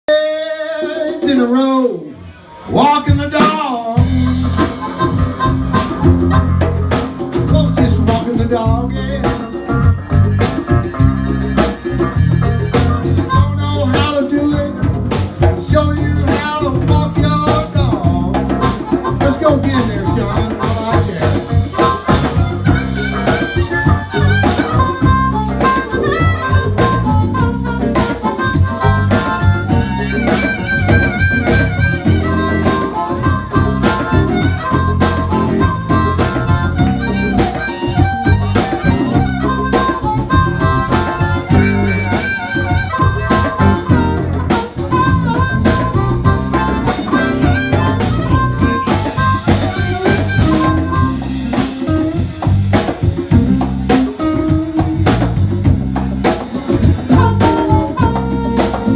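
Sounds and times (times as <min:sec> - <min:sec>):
electric guitar: 0:00.1 - 0:58.9
harmonica bending notes: 0:00.1 - 0:58.9
drums in a steady beat: 0:02.7 - 0:58.9.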